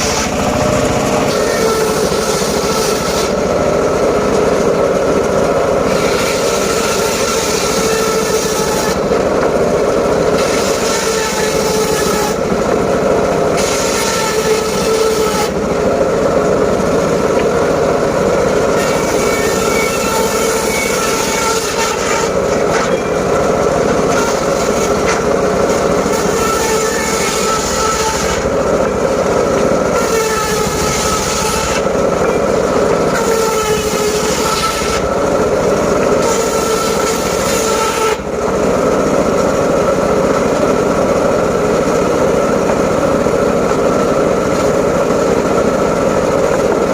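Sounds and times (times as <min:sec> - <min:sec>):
circular saw cutting wood: 0:00.0 - 0:46.9.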